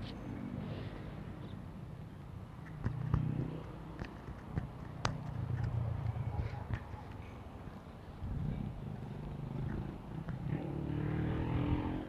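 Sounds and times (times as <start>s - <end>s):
low engine hum of traffic: 0.0s - 12.0s.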